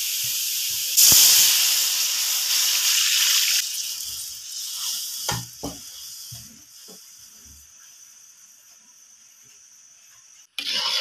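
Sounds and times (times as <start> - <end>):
hot oil sizzling: 0.0 - 8.4, 10.2 - 11.0.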